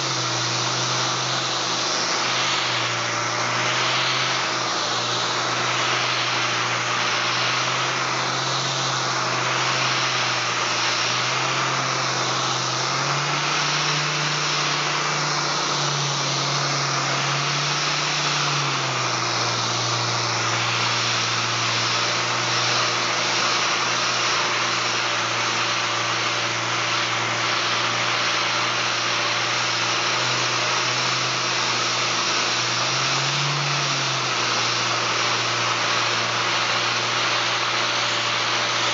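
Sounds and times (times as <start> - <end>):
air sander hissing and whining: 0.0 - 38.9.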